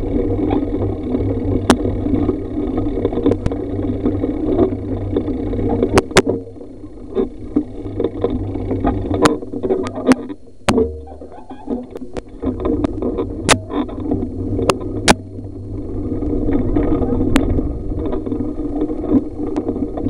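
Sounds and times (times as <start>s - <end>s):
bike clicks and knocks: 0.0s - 20.0s
road and wind rumble: 0.0s - 20.0s.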